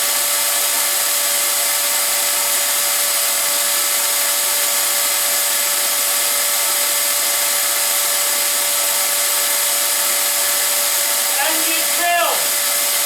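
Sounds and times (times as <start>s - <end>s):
shop vacuum running: 0.0s - 13.0s.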